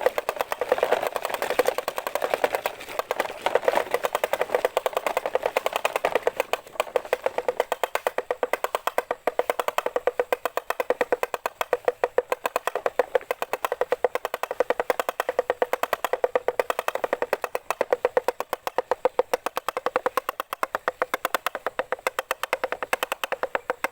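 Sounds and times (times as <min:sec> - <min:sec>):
rapid sharp clicking: 0:00.0 - 0:23.9.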